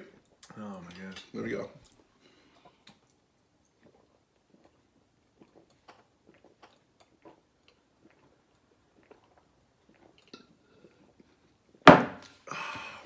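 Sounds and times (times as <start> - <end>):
people gulping and swallowing: 1.8 - 13.0.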